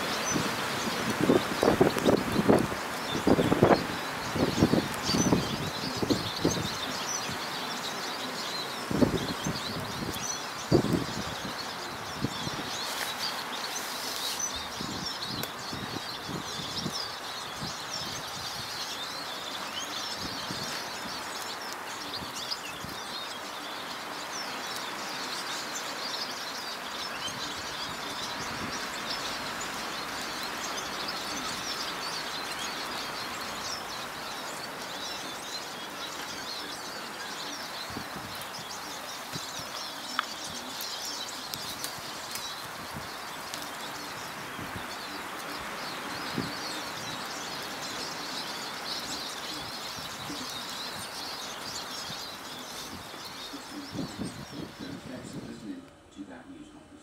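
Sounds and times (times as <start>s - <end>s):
songbirds singing and chirping: 0.0s - 57.0s
steady outdoor hiss: 0.0s - 57.0s.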